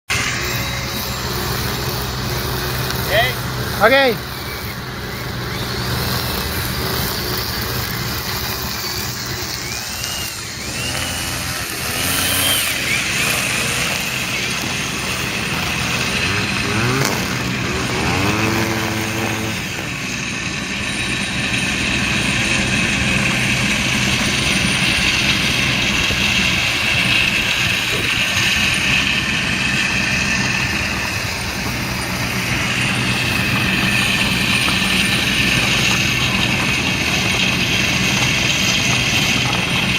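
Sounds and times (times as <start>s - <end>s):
model plane motor whining: 0.1s - 39.9s.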